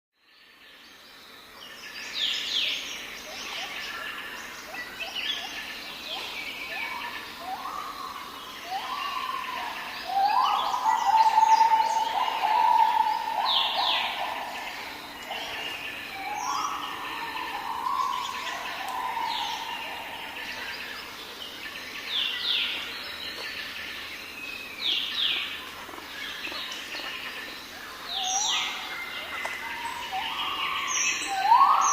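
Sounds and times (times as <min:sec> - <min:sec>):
steady outdoor hiss: 0:00.2 - 0:31.9
birds singing and calling: 0:00.5 - 0:31.9.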